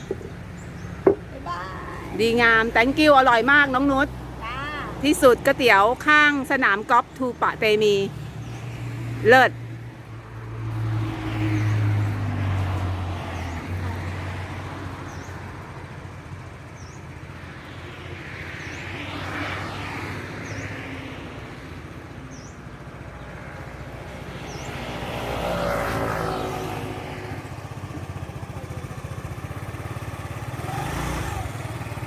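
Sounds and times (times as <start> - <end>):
low traffic hum: 0.0 - 32.0
vehicles passing close: 0.0 - 32.0.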